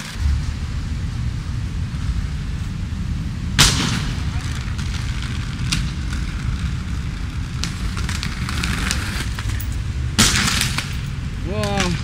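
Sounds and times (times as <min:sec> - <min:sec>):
skate wheels rolling on pavement: 0:00.0 - 0:12.0.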